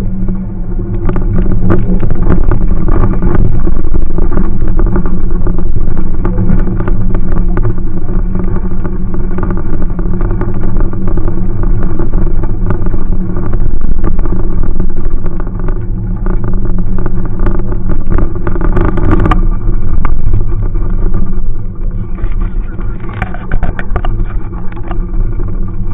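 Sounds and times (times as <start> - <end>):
car engine running: 0.0 - 25.9
loud clatter: 0.0 - 25.9.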